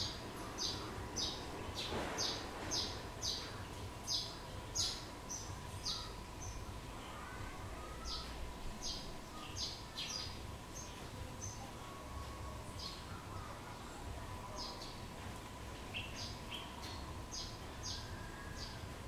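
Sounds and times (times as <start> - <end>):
small birds chirping: 0.0 - 19.0
faint steady tone: 3.0 - 19.0.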